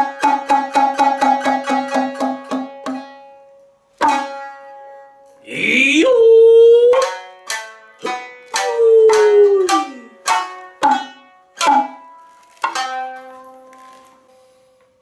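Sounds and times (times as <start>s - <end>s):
plucked shamisen notes: 0.0s - 15.0s.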